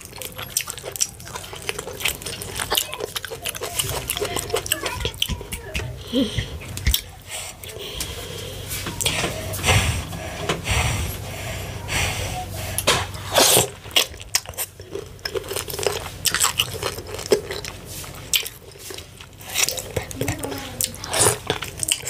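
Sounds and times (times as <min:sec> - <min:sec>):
chewing with mouth clicks: 0:00.0 - 0:11.2, 0:12.4 - 0:22.0.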